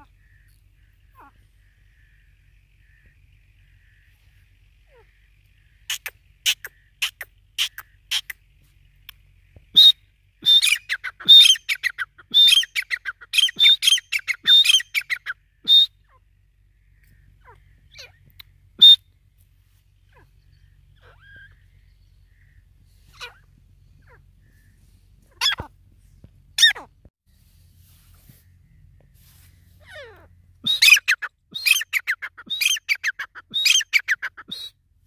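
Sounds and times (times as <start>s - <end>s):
francolin calling: 0.0s - 25.7s, 28.3s - 34.8s.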